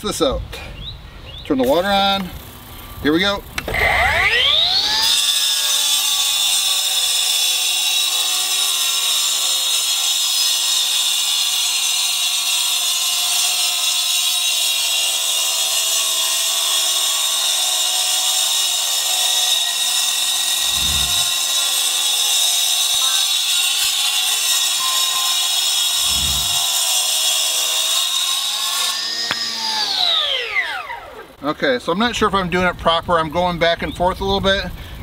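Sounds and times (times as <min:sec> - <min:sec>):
cutoff saw whining through concrete: 0:03.2 - 0:31.5.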